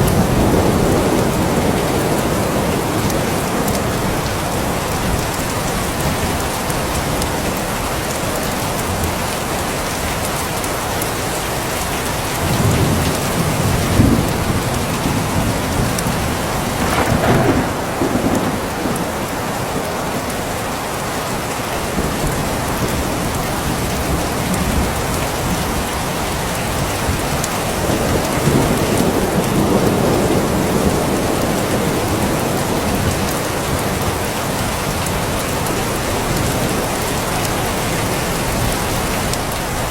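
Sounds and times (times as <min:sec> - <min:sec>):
thunder rumbling: 0:00.0 - 0:07.8, 0:12.1 - 0:39.9
heavy rain falling: 0:00.0 - 0:39.9.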